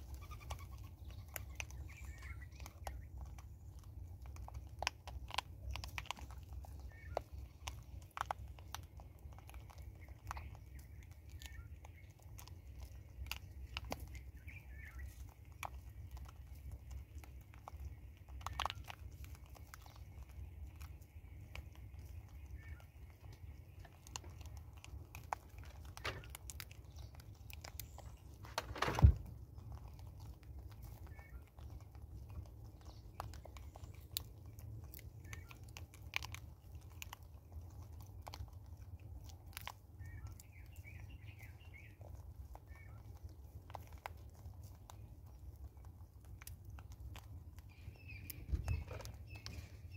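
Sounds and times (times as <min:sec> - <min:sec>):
monkeys crunching and chewing seeds: 0:00.0 - 0:49.9
small clicks of kernels: 0:00.0 - 0:49.9.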